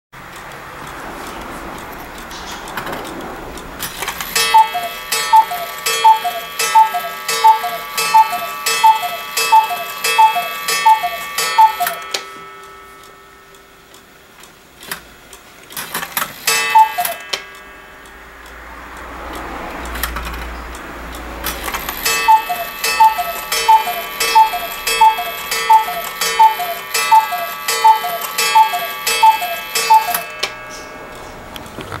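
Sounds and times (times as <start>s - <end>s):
clock mechanism clicking: 0.2s - 32.0s
cuckoo clock two-tone call: 3.8s - 14.0s, 16.0s - 31.9s.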